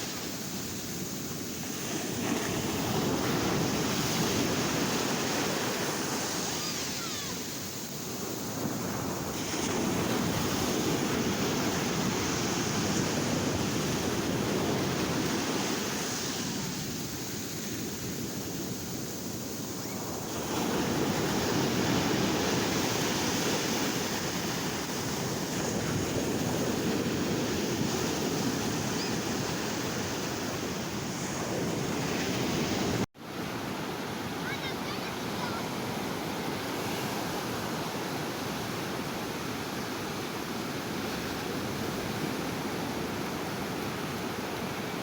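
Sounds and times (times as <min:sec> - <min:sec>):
ocean waves breaking: 0:00.0 - 0:45.0
wind noise on microphone: 0:00.0 - 0:45.0.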